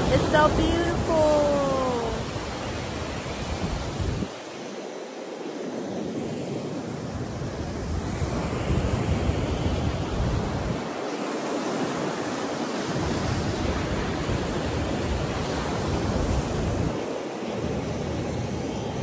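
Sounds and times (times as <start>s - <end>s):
ocean surf breaking on sand: 0.0s - 19.0s
wind rumbling on microphone: 0.0s - 19.0s.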